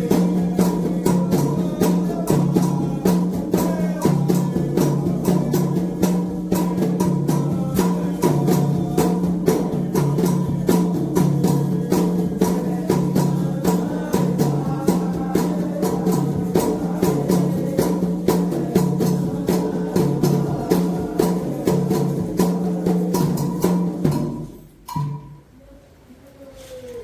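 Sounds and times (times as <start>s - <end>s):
voices singing a chant: 0.0s - 24.6s
hand drums: 0.0s - 25.5s.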